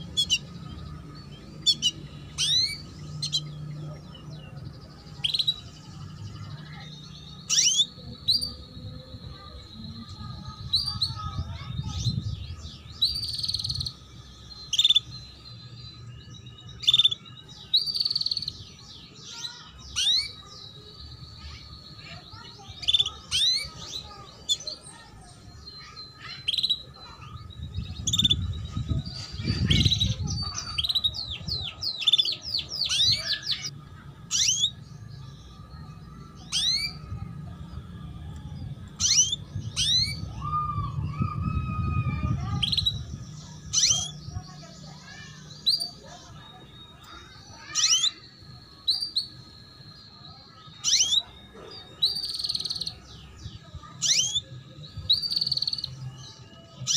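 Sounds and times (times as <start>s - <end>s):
canary chirping: 0.0s - 56.9s.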